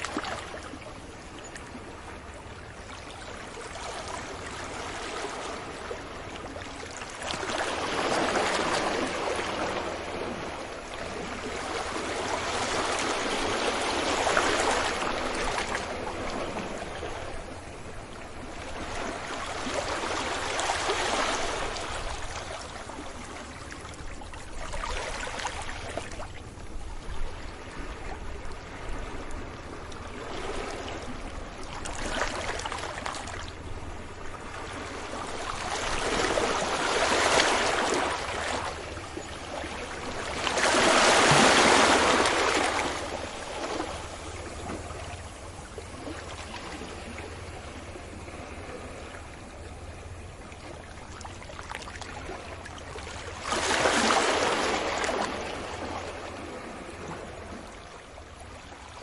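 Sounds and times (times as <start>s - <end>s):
ocean waves breaking: 3.5s - 59.0s.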